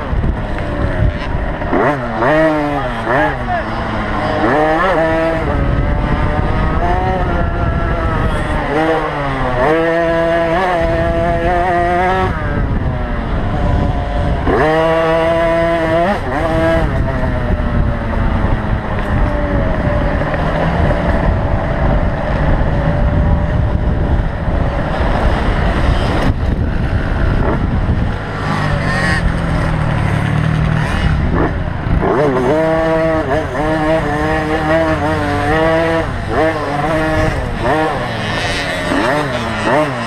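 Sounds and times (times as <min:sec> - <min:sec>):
dirt bike engine revving: 0:00.0 - 0:40.0
dirt bike engines droning: 0:00.0 - 0:40.0.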